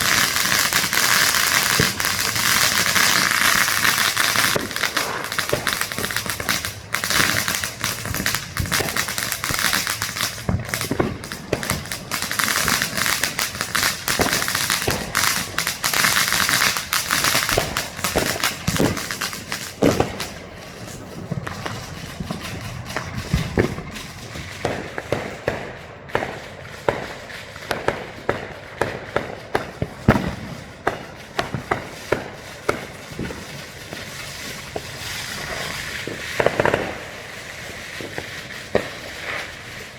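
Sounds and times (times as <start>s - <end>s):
deep firework booms: 0.0s - 15.9s, 16.8s - 37.3s
firecrackers crackling: 0.0s - 39.9s
firework bangs and pops: 0.0s - 39.9s.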